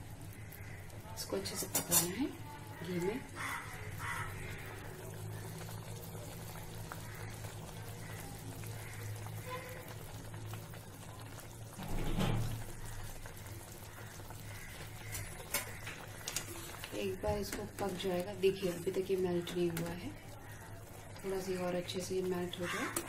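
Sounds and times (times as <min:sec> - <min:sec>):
gel bubbling and sizzling in ghee: 0:00.0 - 0:23.0.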